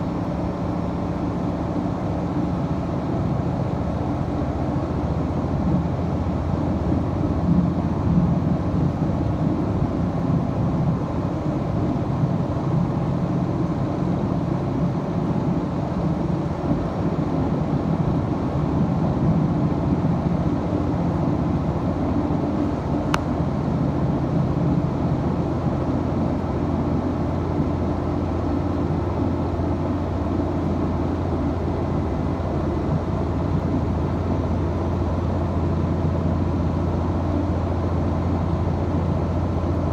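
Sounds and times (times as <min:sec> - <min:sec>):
railcar diesel engine drone: 0:00.0 - 0:39.9.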